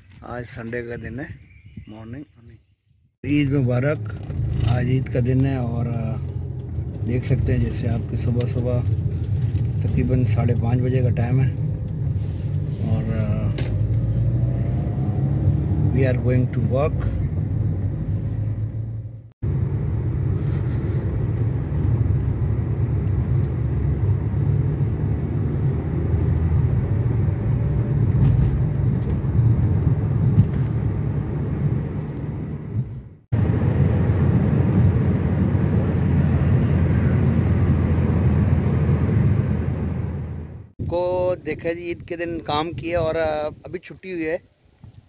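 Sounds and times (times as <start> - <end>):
car engine and road rumble: 3.2 - 45.0.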